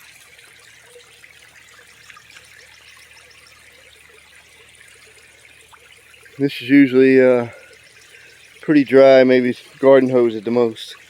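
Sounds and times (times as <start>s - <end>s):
water flowing down creek: 0.0s - 11.0s.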